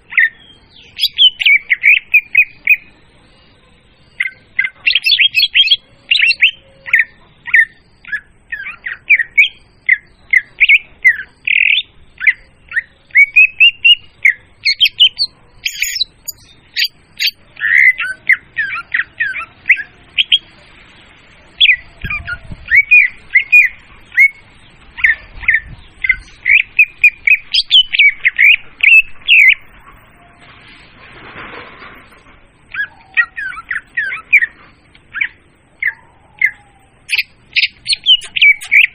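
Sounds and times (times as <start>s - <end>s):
bird song with chirps and whistles: 0.0s - 20.6s, 21.4s - 30.5s, 32.6s - 38.9s.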